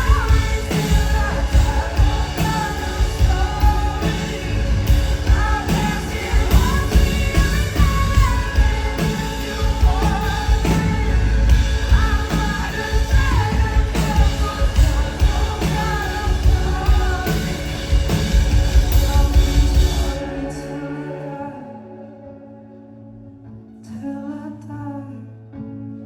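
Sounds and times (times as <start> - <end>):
drums and bass: 0.0 - 21.0
live band playing: 0.0 - 21.4
person singing lead vocal: 0.0 - 26.0.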